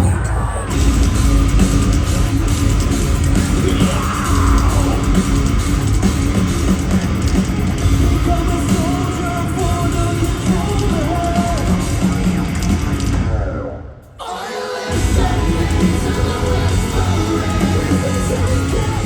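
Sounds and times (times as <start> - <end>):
yelled and sung vocals: 0.0 - 13.1, 14.0 - 19.0
pounding drums: 0.0 - 13.4, 14.9 - 19.0
distorted guitars: 0.0 - 19.0.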